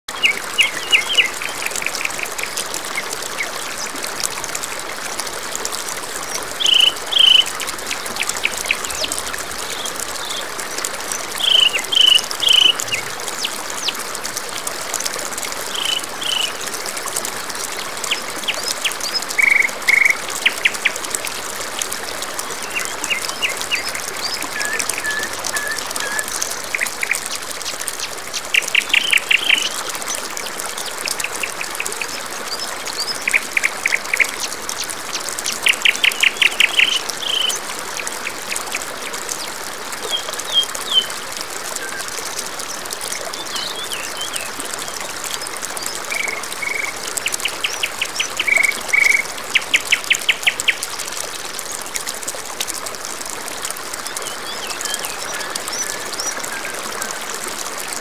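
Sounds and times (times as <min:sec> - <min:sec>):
songbirds calling: 0:00.1 - 0:04.0, 0:06.2 - 0:14.1, 0:15.6 - 0:16.7, 0:17.8 - 0:21.4, 0:22.3 - 0:51.9, 0:54.0 - 0:58.0
waterfall rushing: 0:00.1 - 0:58.0.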